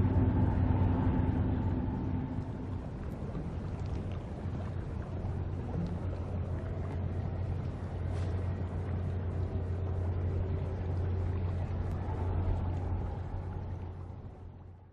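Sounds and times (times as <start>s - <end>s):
distant ship diesel engine drone: 0.0s - 14.9s.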